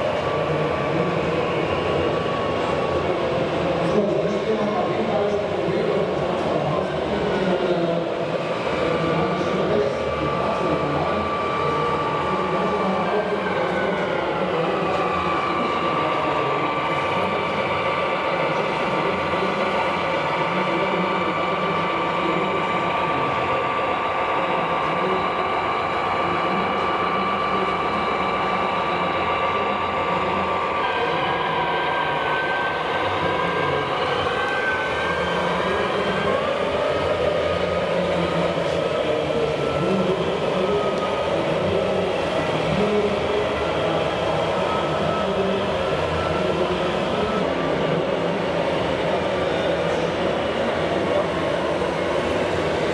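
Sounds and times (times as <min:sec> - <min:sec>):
background din of large hall: 0:00.0 - 0:52.9
machine running with high whine: 0:00.0 - 0:52.9.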